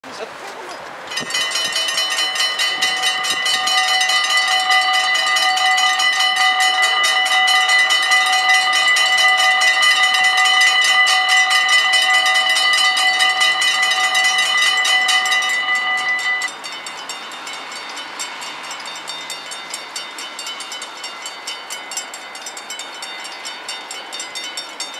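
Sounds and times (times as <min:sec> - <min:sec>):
level crossing bells ringing: 0:01.1 - 0:24.9.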